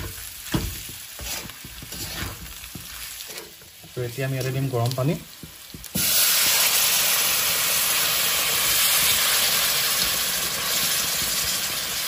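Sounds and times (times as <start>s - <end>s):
water hissing and sizzling in pan: 0.0s - 12.0s.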